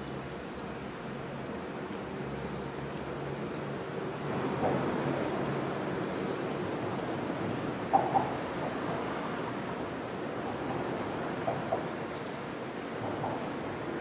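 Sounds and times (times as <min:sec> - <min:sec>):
distant freight train rumble: 0:00.0 - 0:14.0
insects chirping in trills: 0:00.0 - 0:14.0.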